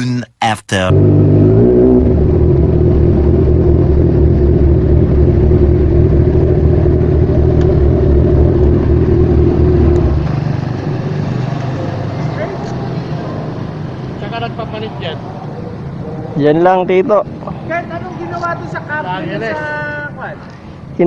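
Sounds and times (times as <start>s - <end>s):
vehicle engine idling: 1.0s - 21.0s.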